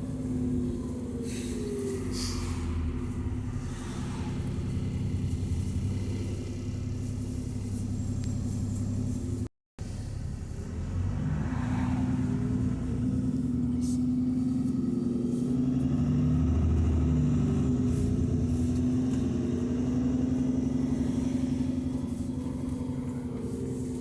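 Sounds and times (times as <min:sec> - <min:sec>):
bus engine rumbling: 0:00.0 - 0:24.0.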